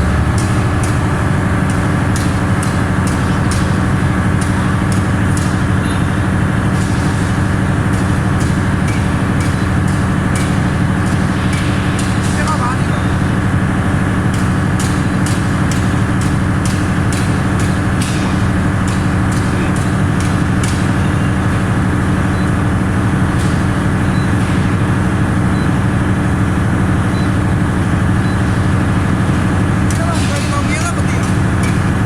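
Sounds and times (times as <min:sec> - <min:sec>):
diesel generator droning: 0:00.0 - 0:32.0.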